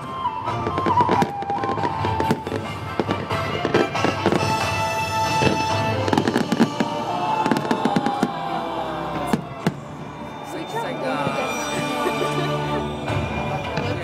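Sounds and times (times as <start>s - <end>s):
fireworks bursting: 0.0s - 12.5s
music with held melody: 0.0s - 14.0s.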